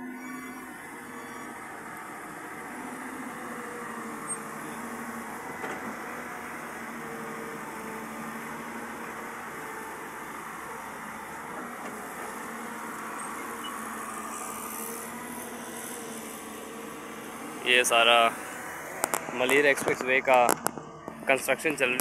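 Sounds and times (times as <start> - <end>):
distant construction machinery: 0.0 - 22.0
distant traffic: 0.0 - 22.0.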